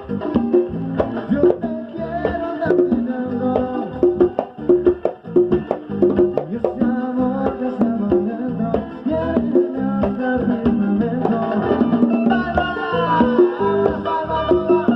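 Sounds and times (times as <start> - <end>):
music with held notes: 0.0 - 14.9.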